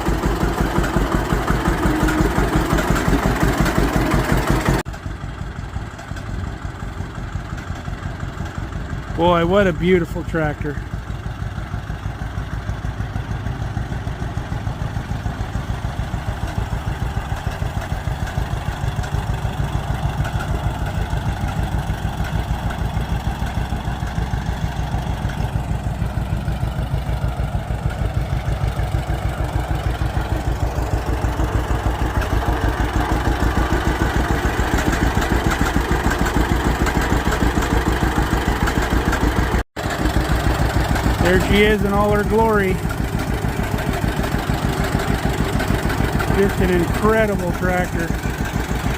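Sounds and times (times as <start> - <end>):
tractor engine popping exhaust: 0.0 - 48.9.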